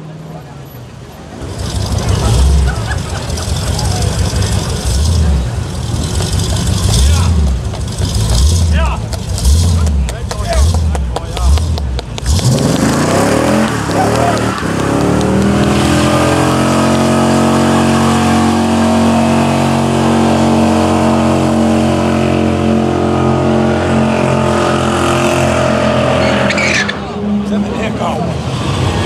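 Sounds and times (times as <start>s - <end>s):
tire noise: 0.0s - 29.0s
car engine revving: 1.0s - 29.0s.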